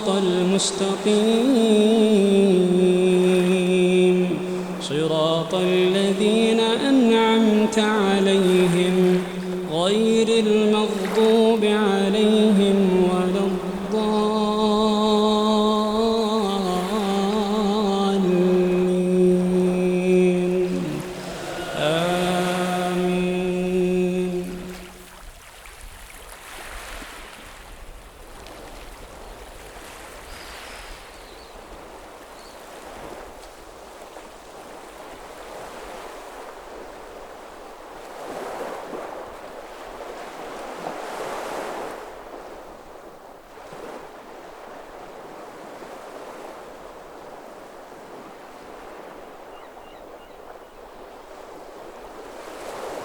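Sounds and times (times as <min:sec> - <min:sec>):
sea surf washing ashore: 0:00.0 - 0:53.0
waves breaking: 0:00.0 - 0:53.0.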